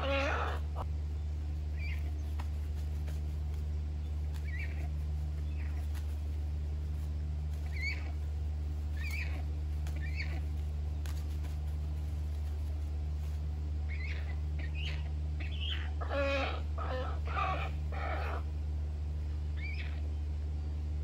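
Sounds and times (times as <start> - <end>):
birds calling: 0.0 - 20.8
steady low hum: 0.0 - 21.0.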